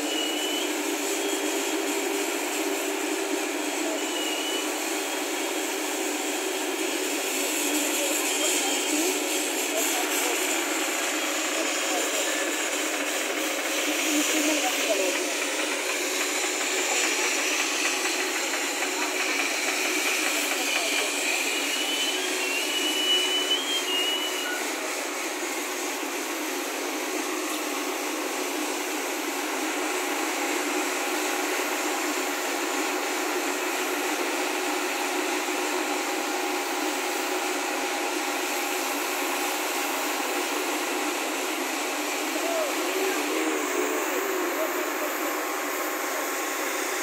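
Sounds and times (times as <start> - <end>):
crane engine running: 0.0 - 47.0.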